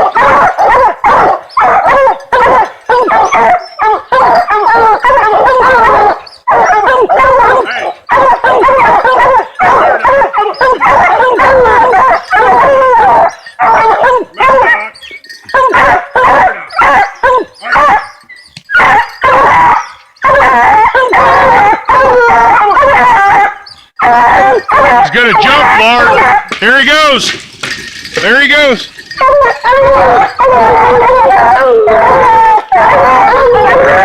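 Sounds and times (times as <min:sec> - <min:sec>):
hounds baying: 0:00.0 - 0:34.0.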